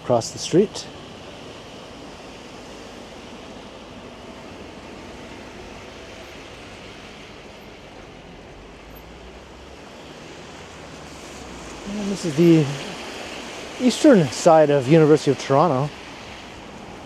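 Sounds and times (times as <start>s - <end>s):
traffic on wet pavement: 0.0s - 17.0s.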